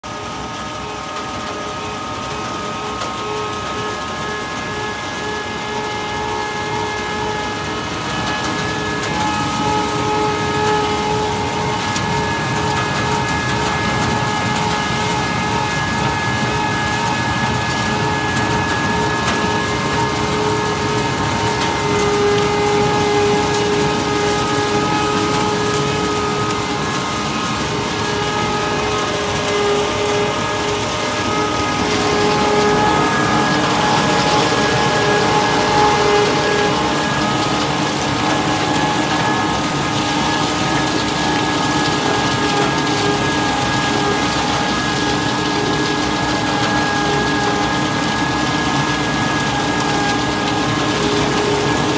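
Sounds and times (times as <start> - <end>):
threshing machine whine: 0.0 - 51.9.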